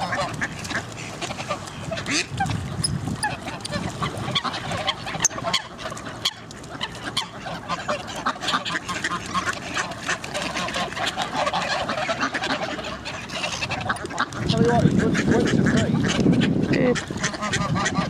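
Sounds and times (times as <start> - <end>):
ducks quacking: 0.0 - 18.0
geese honking: 0.0 - 18.0.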